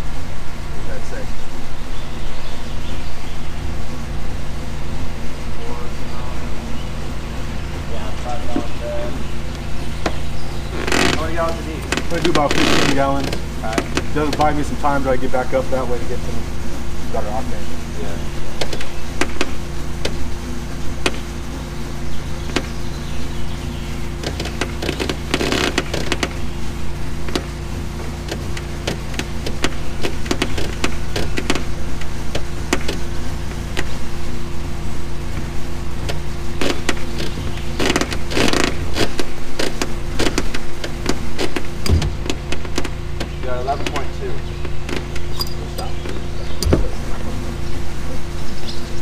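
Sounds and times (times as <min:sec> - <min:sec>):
fuel pump motor humming: 0:00.0 - 0:49.0.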